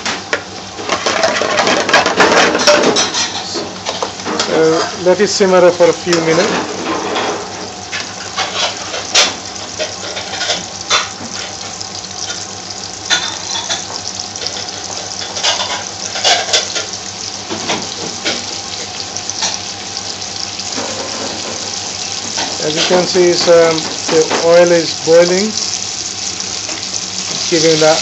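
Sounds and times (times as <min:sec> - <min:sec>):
garlic sizzling in hot oil: 0:00.0 - 0:28.0.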